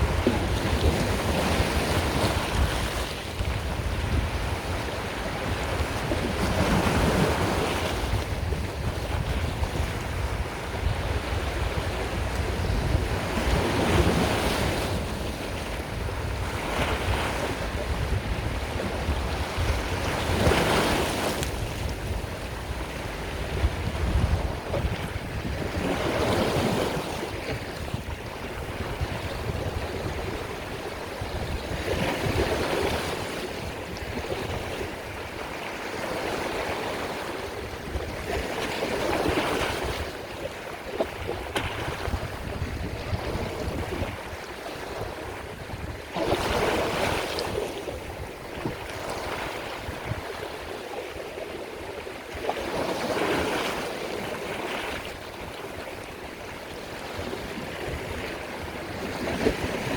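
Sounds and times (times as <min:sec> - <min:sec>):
rush of water: 0:00.0 - 0:59.9
waves breaking: 0:00.0 - 0:59.9.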